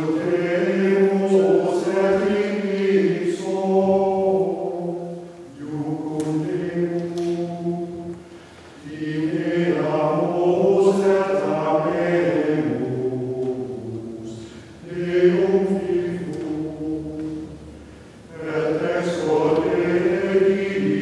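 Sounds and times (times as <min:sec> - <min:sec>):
mixed choir singing a cappella: 0:00.0 - 0:21.0.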